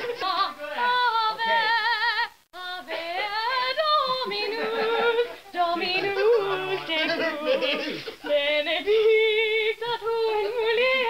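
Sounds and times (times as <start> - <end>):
woman singing with wide vibrato: 0.0 - 11.0.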